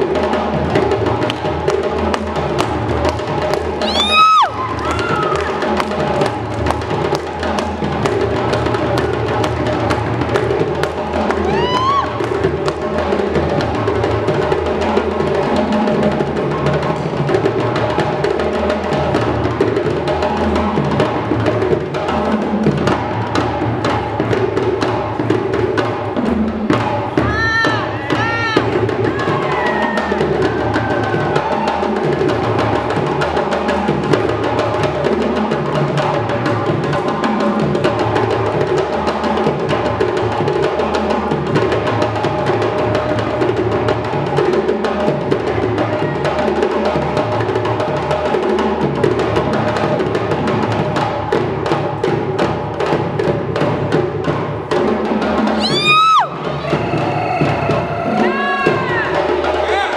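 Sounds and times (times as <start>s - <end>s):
djembe hand drums: 0.0s - 59.9s.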